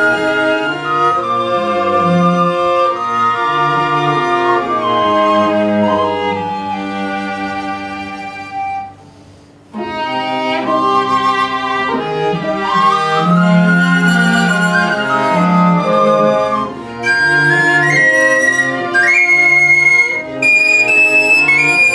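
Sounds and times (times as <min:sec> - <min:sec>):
bowed string instruments: 0:00.0 - 0:09.0, 0:09.7 - 0:21.9.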